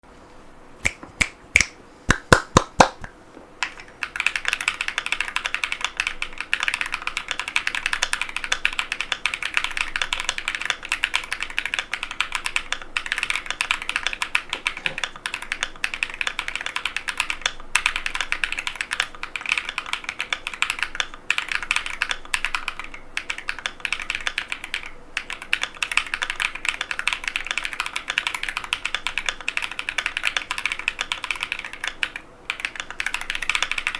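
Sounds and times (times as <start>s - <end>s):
mechanical keyboard typing: 3.6s - 33.9s.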